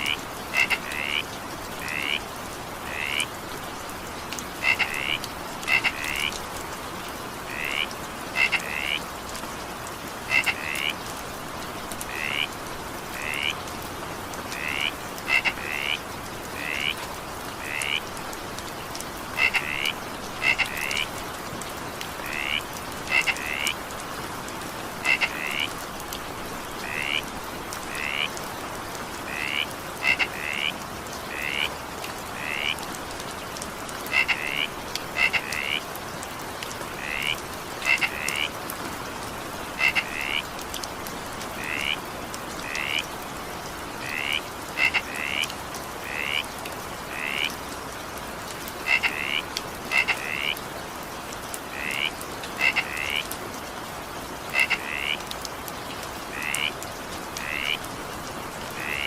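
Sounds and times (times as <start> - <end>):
frogs croaking: 0.0 - 3.7, 4.6 - 11.1, 11.7 - 21.4, 22.0 - 36.0, 36.8 - 47.7, 48.6 - 50.8, 51.5 - 53.4, 54.2 - 55.3, 56.2 - 59.0
steady rain: 0.0 - 59.0.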